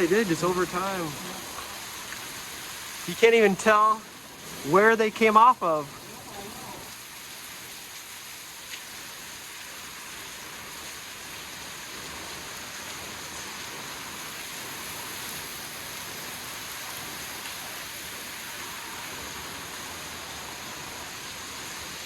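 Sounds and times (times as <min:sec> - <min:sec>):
waterfall splashing: 0:00.0 - 0:22.0.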